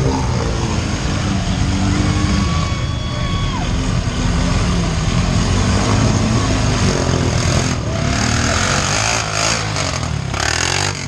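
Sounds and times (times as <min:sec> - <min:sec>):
atv engine running hard: 0:00.0 - 0:11.0.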